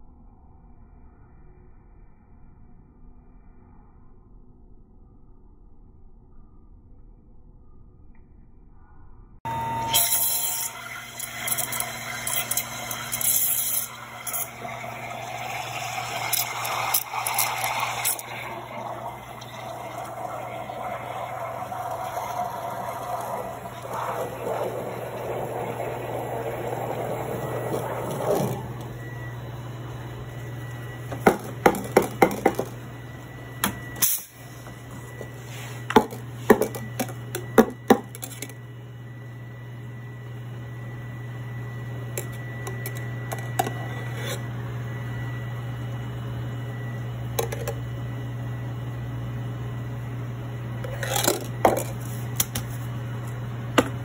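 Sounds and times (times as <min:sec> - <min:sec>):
steady low hum: 0:10.7 - 0:54.0.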